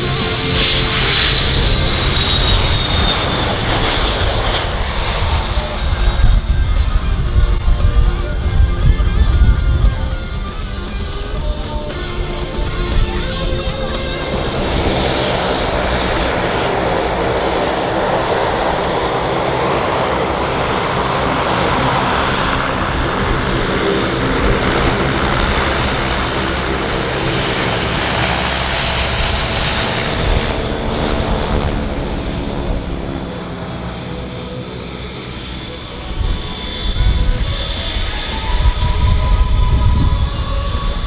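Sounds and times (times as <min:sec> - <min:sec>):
aircraft engines roaring: 0:00.0 - 0:41.0.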